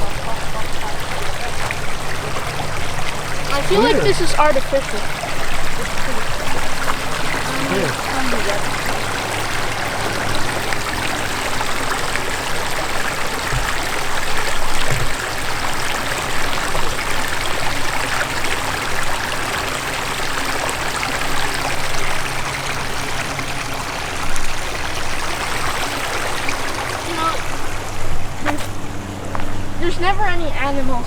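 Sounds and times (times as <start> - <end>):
creek water trickling: 0.0 - 31.0.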